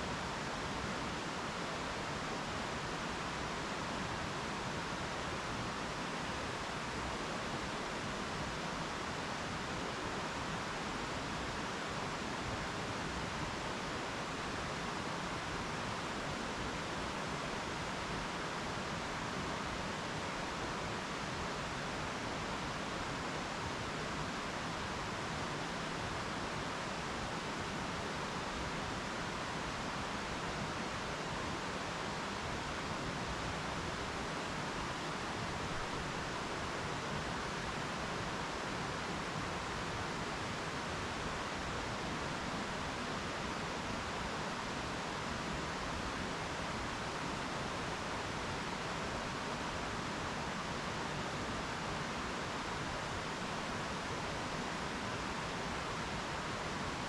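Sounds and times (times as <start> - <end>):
stream rushing: 0.0 - 57.0.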